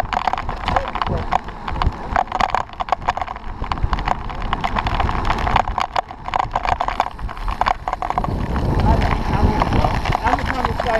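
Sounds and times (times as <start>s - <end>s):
clicks and rattles: 0.0s - 10.9s
tyre road noise: 0.0s - 10.9s
wind rushing over microphone: 0.0s - 10.9s.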